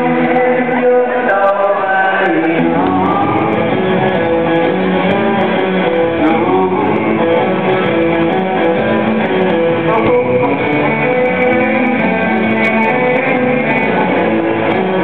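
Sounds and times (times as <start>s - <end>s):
bass guitar: 0.0s - 15.0s
drums: 0.0s - 15.0s
electric guitar melody: 0.0s - 15.0s
rhythm guitar: 0.0s - 15.0s.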